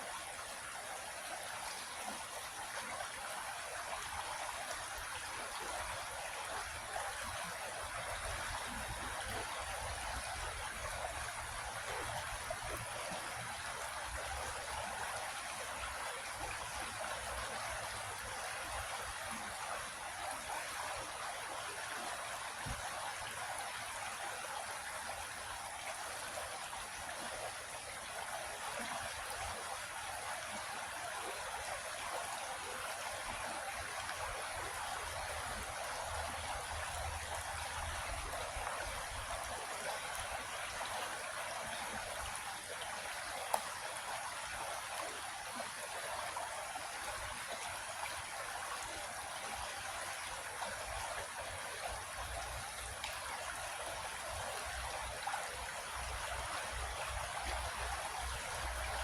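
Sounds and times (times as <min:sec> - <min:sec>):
creek water running over rocks: 0:00.0 - 0:59.0.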